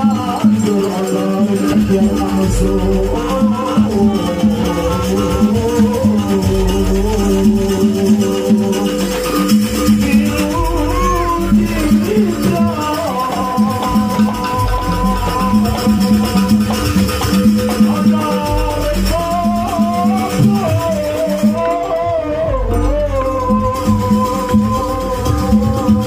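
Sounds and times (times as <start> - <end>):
repeating percussion pattern: 0.0 - 26.0
shaken rattle percussion: 0.0 - 26.0
wavering melody line: 0.0 - 26.0.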